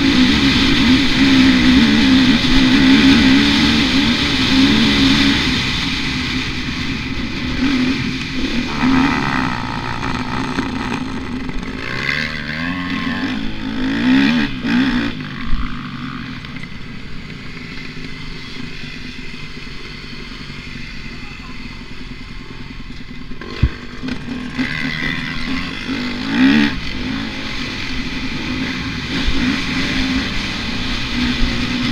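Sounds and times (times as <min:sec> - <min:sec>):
motocross bike engine revving: 0:00.0 - 0:31.9.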